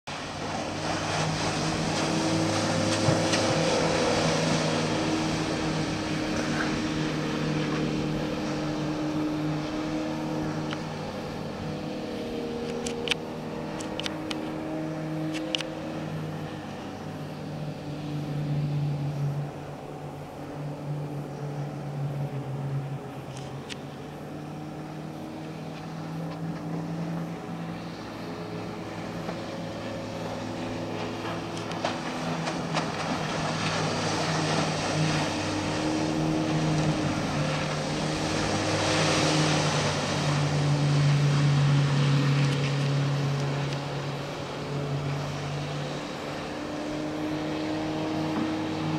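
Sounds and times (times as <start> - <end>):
outboard motor running: 0.1 - 48.9.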